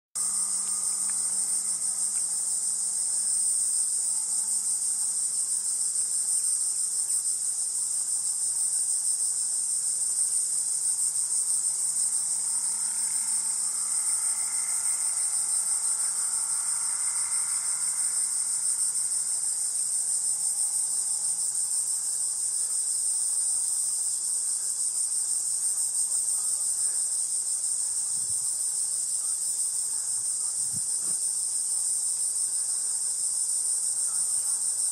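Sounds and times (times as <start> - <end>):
insects buzzing shrilly: 0.2 - 34.9.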